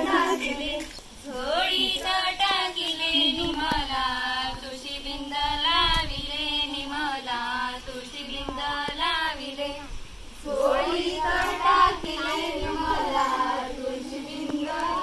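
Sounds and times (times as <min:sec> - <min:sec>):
women and girls singing folk song: 0:00.0 - 0:15.0.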